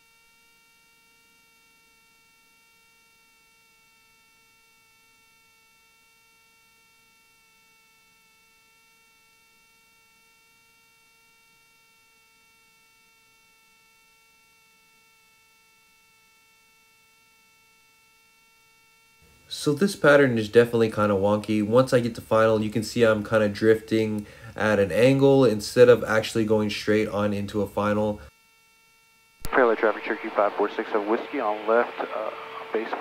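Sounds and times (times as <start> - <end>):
faint electrical hum: 0.0 - 33.0.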